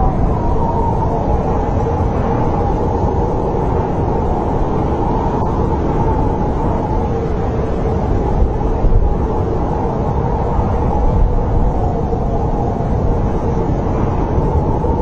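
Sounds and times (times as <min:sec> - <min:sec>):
storm wind blowing: 0:00.0 - 0:15.0
wind whistling: 0:00.0 - 0:15.0.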